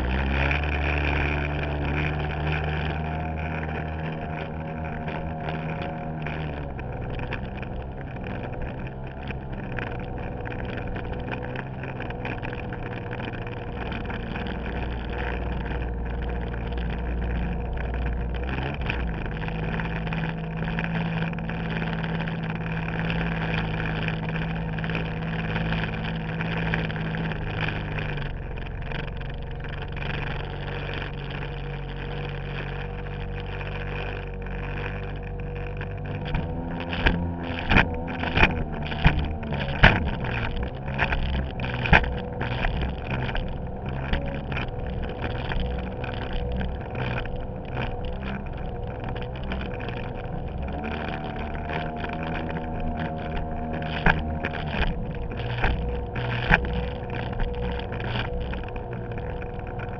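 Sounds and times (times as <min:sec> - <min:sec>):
jet ski engine running: 0:00.0 - 0:59.9.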